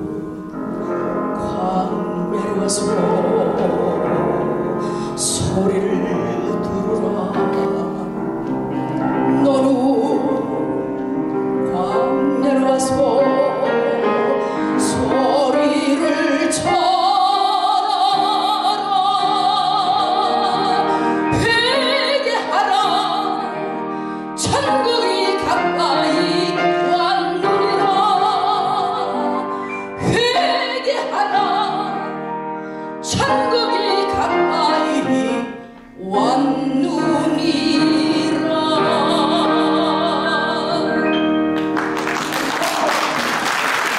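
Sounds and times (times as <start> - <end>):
grand piano accompaniment: 0.0 - 43.9
woman singing operatically: 1.3 - 8.2, 9.2 - 10.8, 11.6 - 23.7, 24.4 - 32.1, 33.0 - 41.1.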